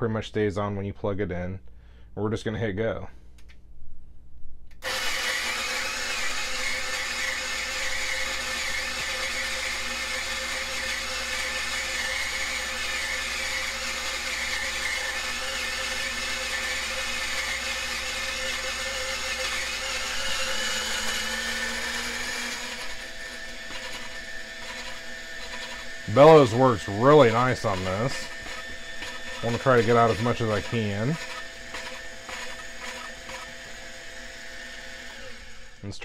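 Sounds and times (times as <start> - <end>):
light motor hum: 4.8 - 35.9
coffee grinder whirring: 4.8 - 36.0.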